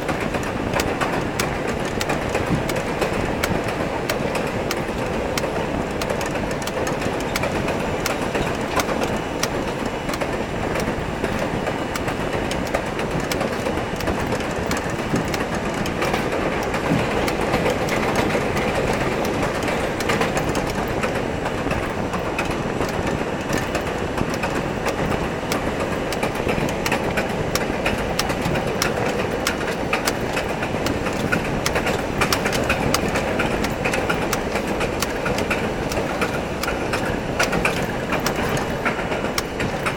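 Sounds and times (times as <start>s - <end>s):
sharp clicks from rail joints: 0.0s - 39.9s
steel wheels rumbling on rail: 0.0s - 39.9s.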